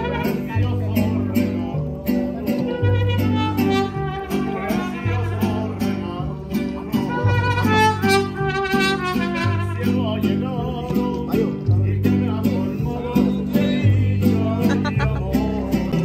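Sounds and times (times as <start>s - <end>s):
bass guitar notes: 0.0s - 16.0s
strummed guitars: 0.0s - 16.0s.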